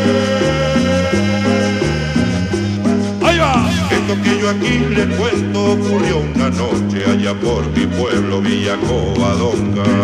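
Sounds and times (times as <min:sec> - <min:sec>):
cumbia dance music: 0:00.0 - 0:10.0.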